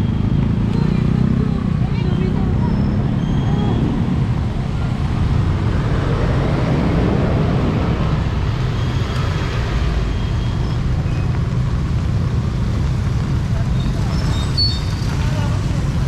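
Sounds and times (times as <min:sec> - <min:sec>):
street noise: 0:00.0 - 0:16.0
vehicle engine rumbling: 0:00.0 - 0:16.0.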